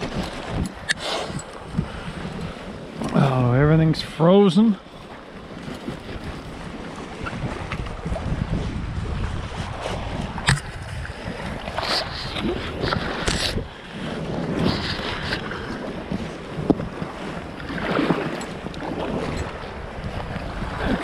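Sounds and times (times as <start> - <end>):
water lapping and splashing: 0.0 - 21.0
wind buffeting the microphone: 0.0 - 21.0.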